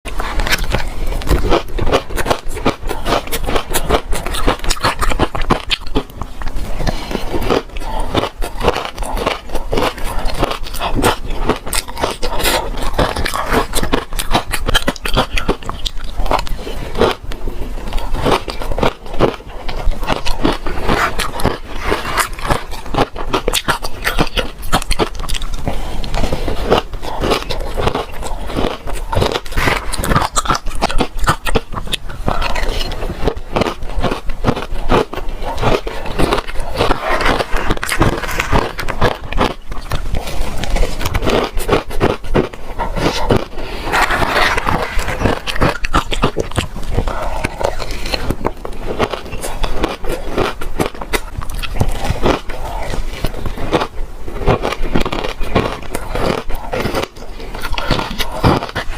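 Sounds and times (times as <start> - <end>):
crunching ice while chewing: 0.1 - 58.9.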